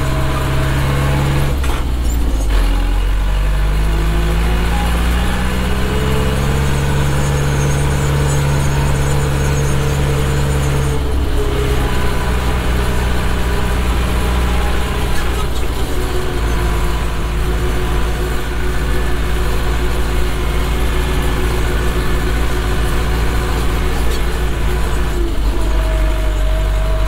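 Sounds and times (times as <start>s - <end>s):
tractor engine accelerating: 0.0s - 27.0s.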